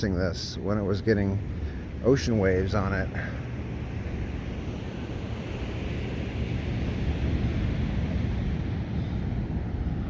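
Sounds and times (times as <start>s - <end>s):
ocean surf: 0.0s - 10.0s
wind buffeting microphone: 0.0s - 10.0s.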